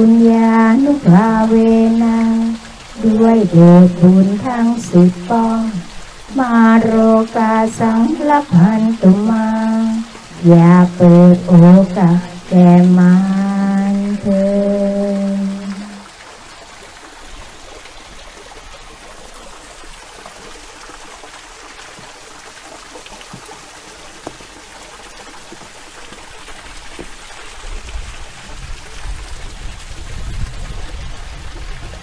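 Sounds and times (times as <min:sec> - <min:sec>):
outdoor background hiss: 0:00.0 - 0:31.4.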